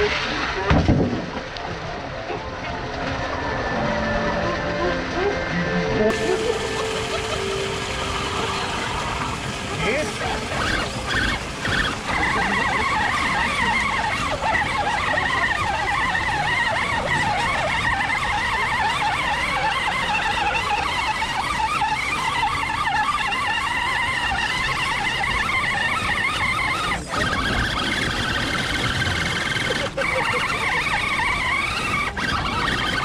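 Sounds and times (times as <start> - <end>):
electric motor and gearbox whining: 2.6 - 33.0.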